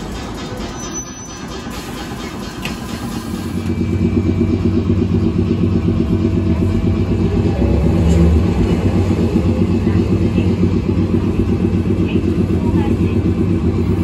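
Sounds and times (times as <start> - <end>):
tram motor and gear hum: 0.0 - 14.0.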